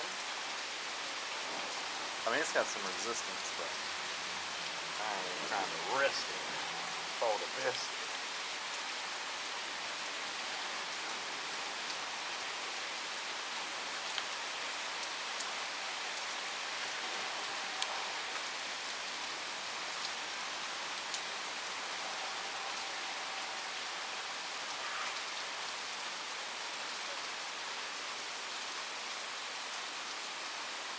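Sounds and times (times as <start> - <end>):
rain hissing on surfaces: 0.0 - 30.9.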